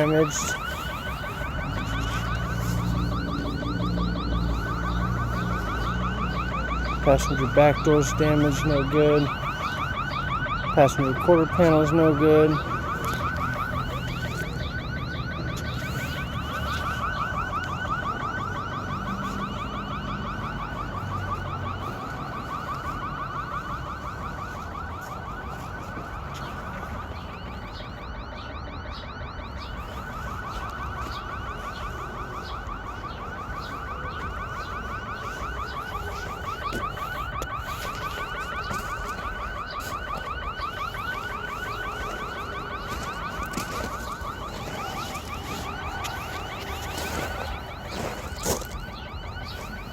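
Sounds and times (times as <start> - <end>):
electronic alarm siren warbling: 0.0 - 49.9.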